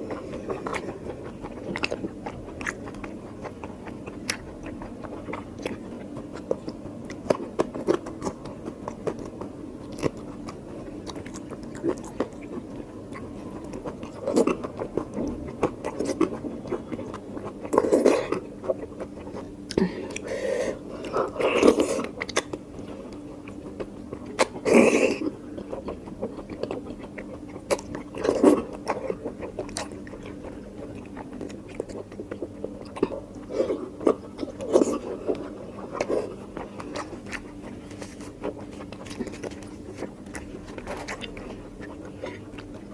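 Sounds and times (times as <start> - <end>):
close chewing with mouth clicks: 0.0 - 42.9.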